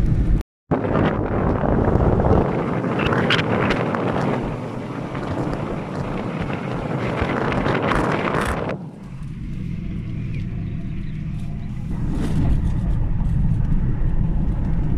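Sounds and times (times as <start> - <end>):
crackles: 0.0 - 14.9
vehicle rumble: 0.0 - 14.9
wind buffeting microphone: 0.0 - 14.9.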